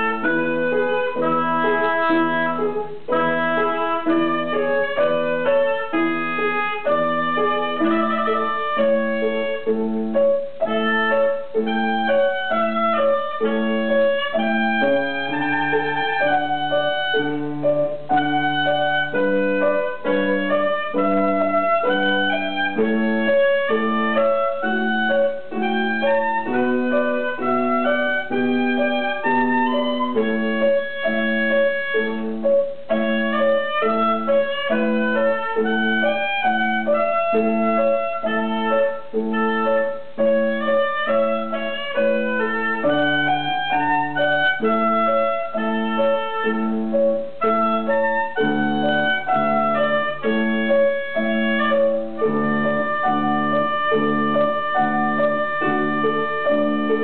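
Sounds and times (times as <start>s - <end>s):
oboe melody: 0.0s - 57.0s
piano chords: 0.0s - 57.0s.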